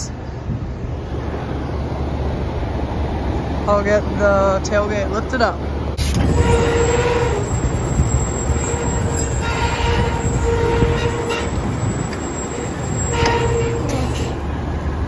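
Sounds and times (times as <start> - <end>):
truck engine under load: 0.0 - 15.0.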